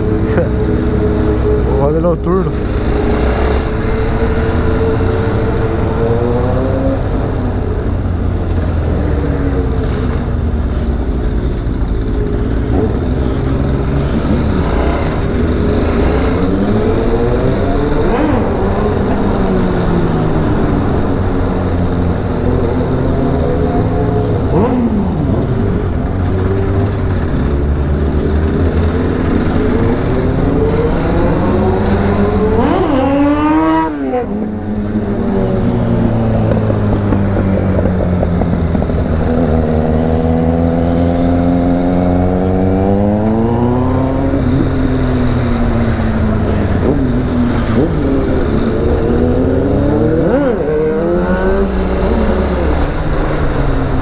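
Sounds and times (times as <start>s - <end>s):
motorcycle engine revving: 0.0s - 10.9s, 11.7s - 54.0s.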